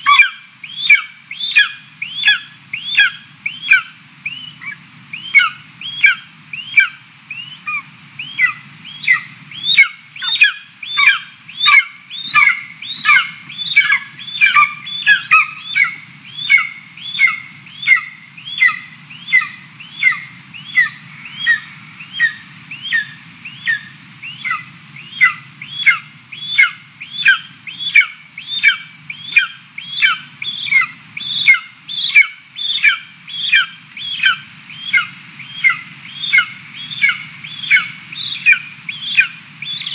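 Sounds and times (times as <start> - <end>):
eagle chick begging calls: 0.0 - 39.9.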